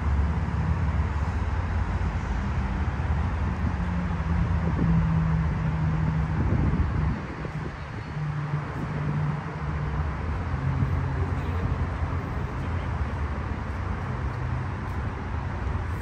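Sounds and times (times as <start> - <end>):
highway traffic rumble: 0.0 - 16.0.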